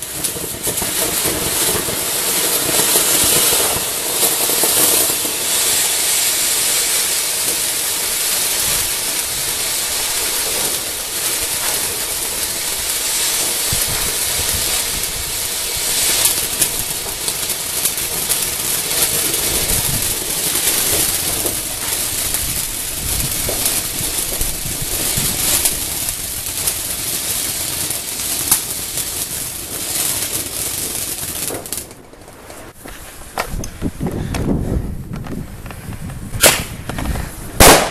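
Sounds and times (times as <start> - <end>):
firework crackles: 0.0 - 37.9
firework fountain hissing: 0.0 - 37.9.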